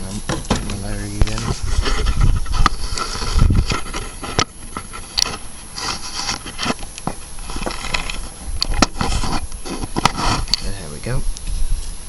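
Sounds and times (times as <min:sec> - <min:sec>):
metal parts scraping and rubbing: 0:00.0 - 0:10.7.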